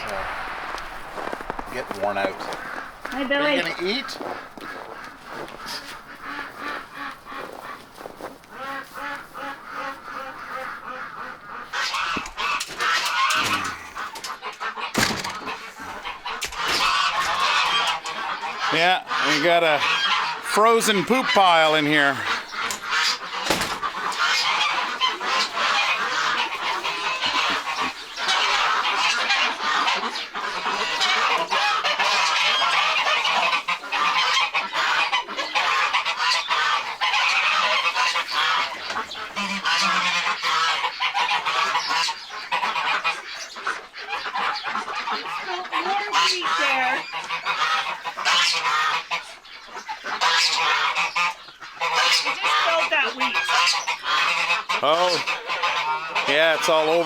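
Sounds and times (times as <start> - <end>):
poultry flock calling: 0.0 - 57.0.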